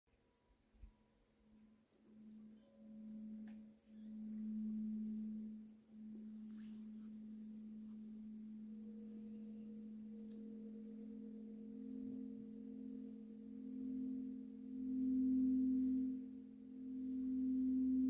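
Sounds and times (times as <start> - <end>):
faint higher ringing tone: 0.9 - 18.0
singing bowl low tone: 1.4 - 18.0.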